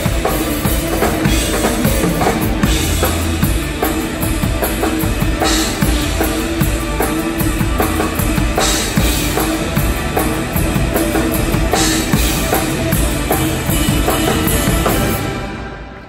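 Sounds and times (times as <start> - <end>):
drum kit kick and snare beat: 0.0 - 15.3
bass and guitar: 0.0 - 16.0.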